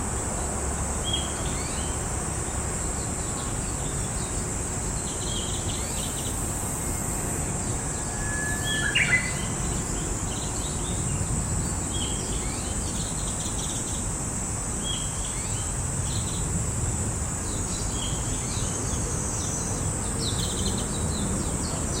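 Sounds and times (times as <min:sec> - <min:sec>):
bush warbler song: 0:00.0 - 0:22.0
high insect buzz: 0:00.8 - 0:22.0.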